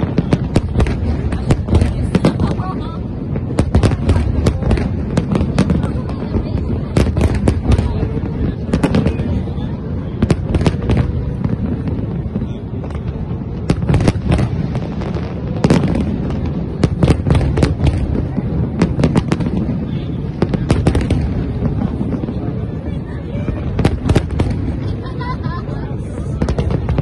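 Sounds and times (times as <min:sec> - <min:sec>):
fireworks low rumble: 0:00.0 - 0:27.0
fireworks sharp bangs: 0:00.0 - 0:27.0.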